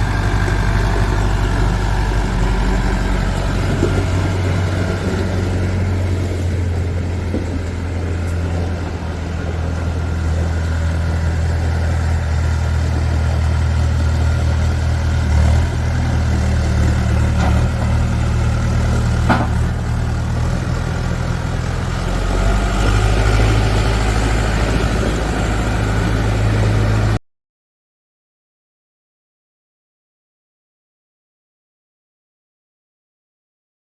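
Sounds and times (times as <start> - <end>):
diesel engine idling: 0.0 - 27.2.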